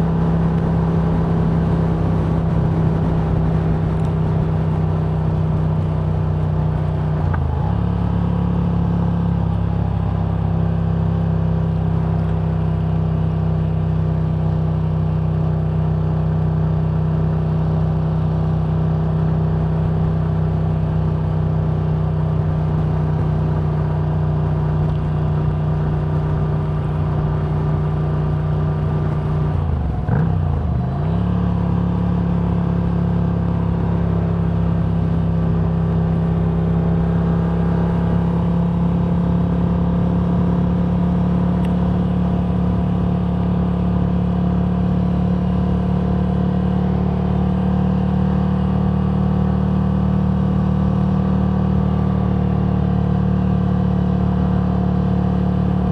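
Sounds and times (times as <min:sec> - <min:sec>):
road vehicle low drone: 0:00.0 - 0:55.9.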